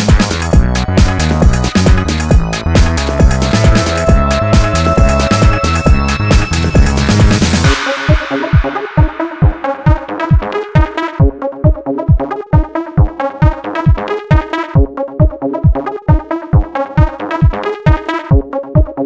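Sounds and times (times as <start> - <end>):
electronic dance music: 0.0 - 19.0.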